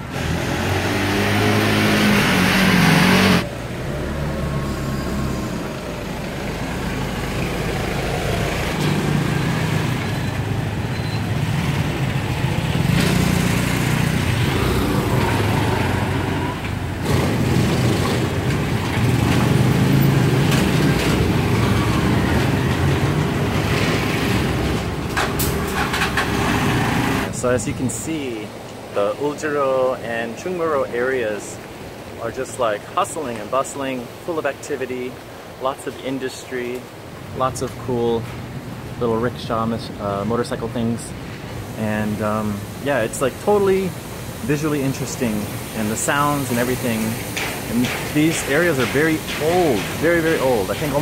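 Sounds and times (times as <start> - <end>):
motorcycle engines: 0.0 - 51.0
three-wheeled vehicle engines: 0.0 - 51.0.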